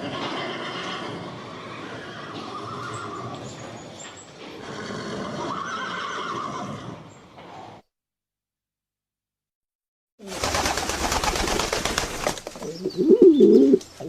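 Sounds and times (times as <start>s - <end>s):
background noise: 0.0s - 7.8s, 10.2s - 14.0s.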